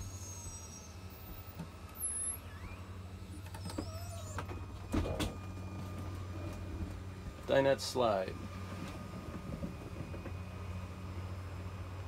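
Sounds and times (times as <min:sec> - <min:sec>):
hydraulic pump humming: 0:00.0 - 0:12.0.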